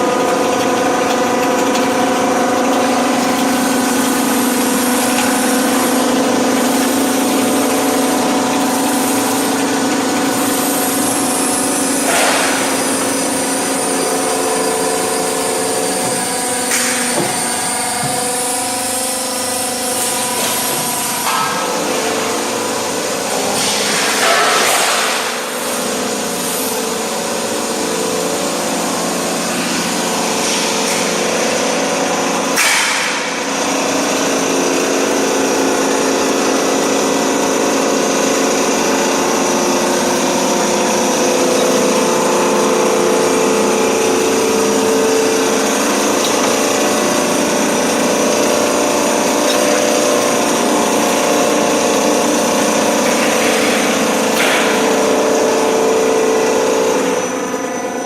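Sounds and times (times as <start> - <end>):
roll-forming machine humming: 0.0 - 58.0.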